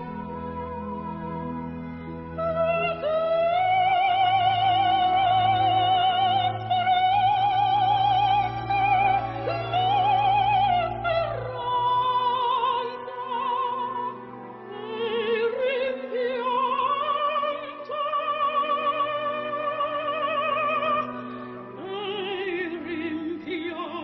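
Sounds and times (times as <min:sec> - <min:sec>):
operatic singing: 0:00.0 - 0:24.0.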